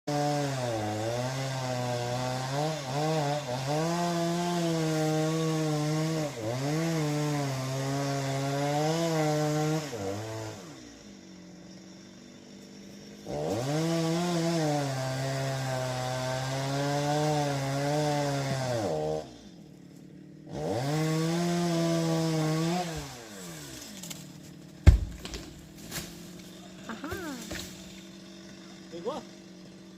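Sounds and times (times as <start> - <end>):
chainsaw cutting wood: 0.1 - 29.9.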